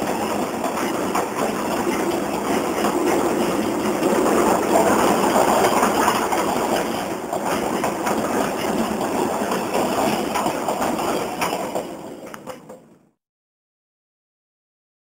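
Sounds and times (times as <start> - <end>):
train wheels running on rails: 0.0 - 13.1.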